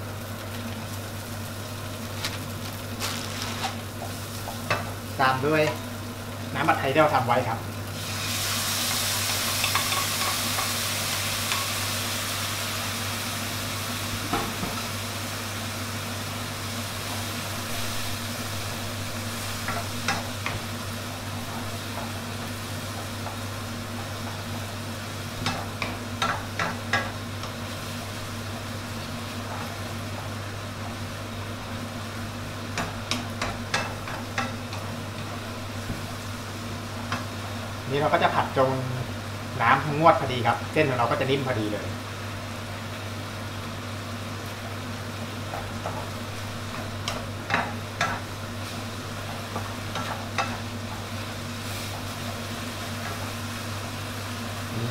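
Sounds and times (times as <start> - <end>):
noodles sizzling in wok: 0.0 - 54.9.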